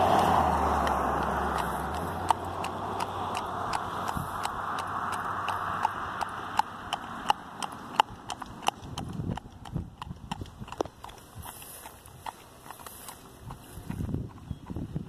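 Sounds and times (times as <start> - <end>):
hooves clip-clopping on asphalt: 0.0 - 15.0.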